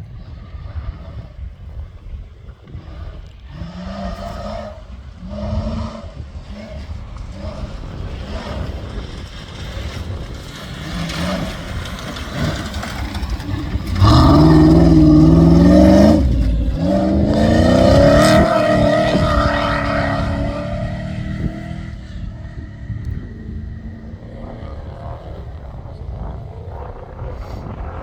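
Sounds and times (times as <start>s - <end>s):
vehicle engine accelerating hard: 0.0s - 28.0s.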